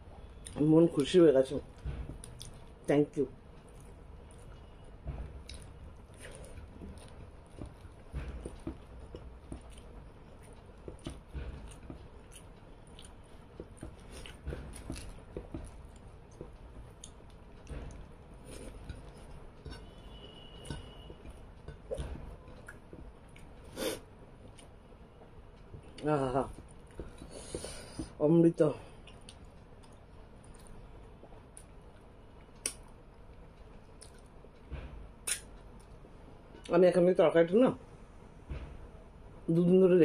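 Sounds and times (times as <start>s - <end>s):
close chewing and mouth sounds: 0.1s - 28.2s, 28.8s - 36.8s.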